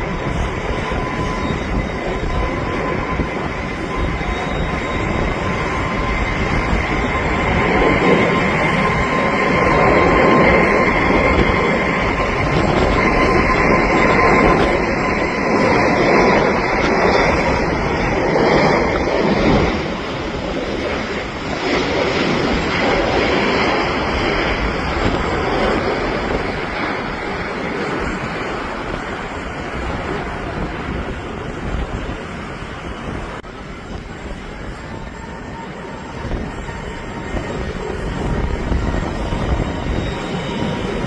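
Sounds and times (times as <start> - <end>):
jet engines roaring: 0.0 - 41.0
thin whine: 0.0 - 41.0.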